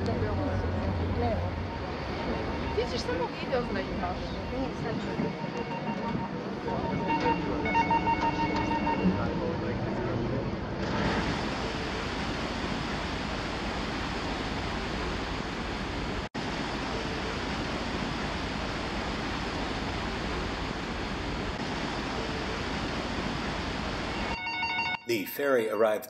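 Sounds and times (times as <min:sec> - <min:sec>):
sea water rushing: 0:00.0 - 0:25.0.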